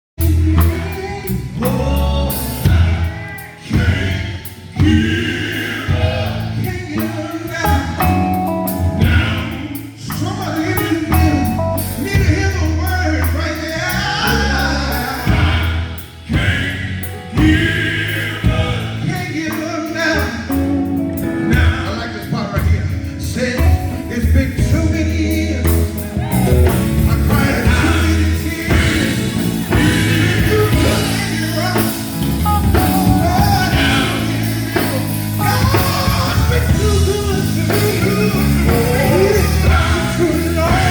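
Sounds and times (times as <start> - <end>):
gospel vocal group with band: 0.2 - 40.9.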